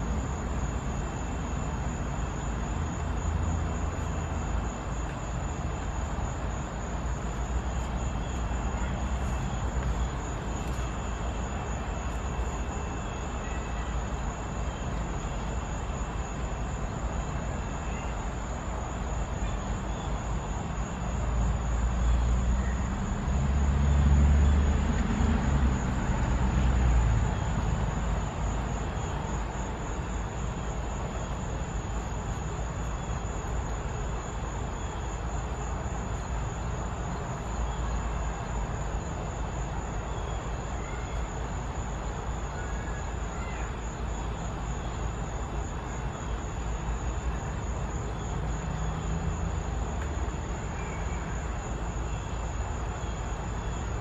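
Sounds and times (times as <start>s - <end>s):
distant traffic rumble: 0.0s - 54.0s.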